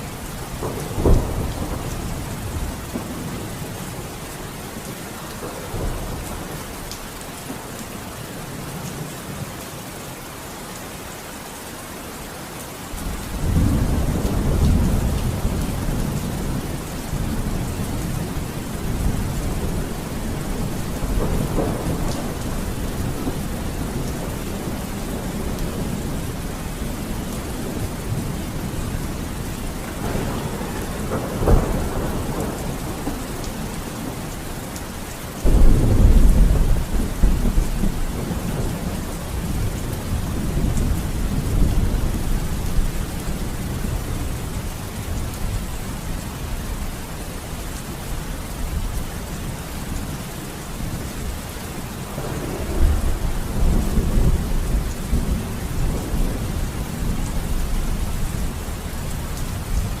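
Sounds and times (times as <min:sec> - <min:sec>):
thunder cracking and rumbling: 0:00.0 - 0:04.1, 0:05.3 - 0:06.8, 0:13.0 - 0:46.8, 0:50.8 - 1:00.0
steady rain: 0:00.0 - 1:00.0.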